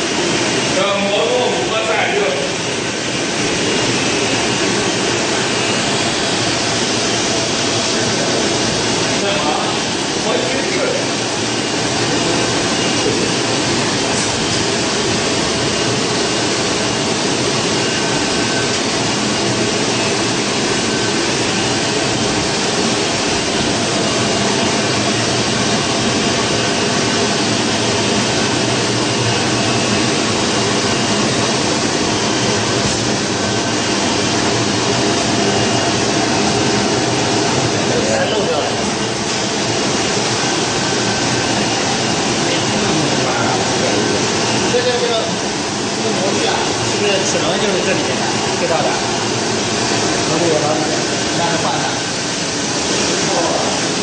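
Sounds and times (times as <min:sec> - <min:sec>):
machinery whirring: 0:00.0 - 0:54.0.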